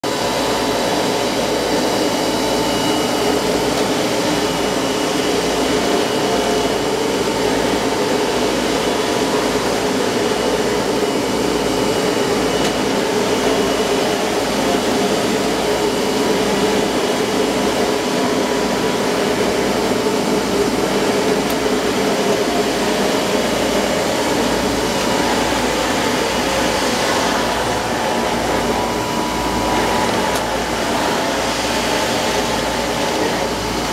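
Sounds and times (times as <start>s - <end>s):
printer whirring: 0.0s - 33.9s.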